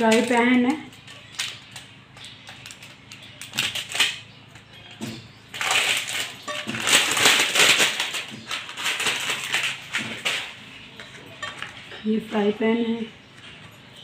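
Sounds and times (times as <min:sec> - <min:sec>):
pan and packaging clicks: 0:00.0 - 0:12.0
plastic wrap crinkling: 0:00.0 - 0:12.0.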